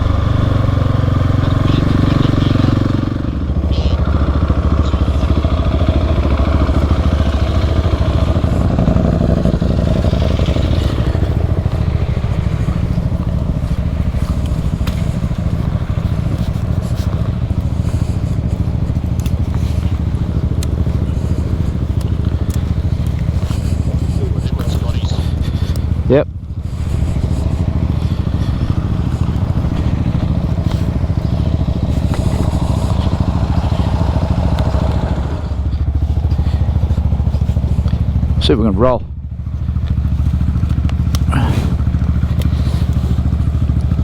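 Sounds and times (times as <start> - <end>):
sharp ticks: 0.0 - 38.4, 39.6 - 44.0
motorcycle engine running: 0.0 - 44.0.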